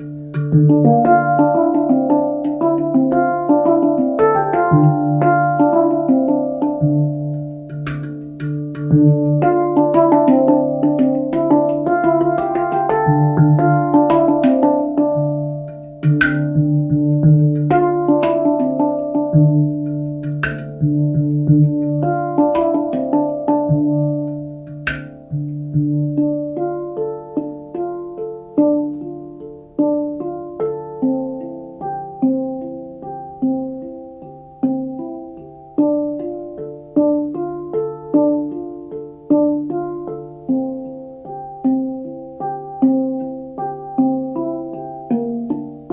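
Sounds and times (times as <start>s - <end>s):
handpan notes ringing: 0.0s - 45.9s
sharp taps on handpan: 0.0s - 45.9s.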